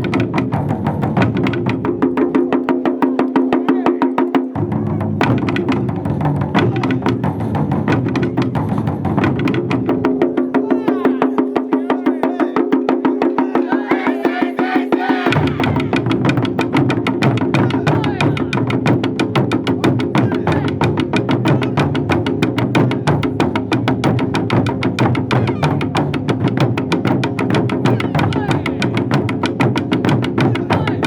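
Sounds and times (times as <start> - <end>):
taiko drums playing: 0.0 - 31.0.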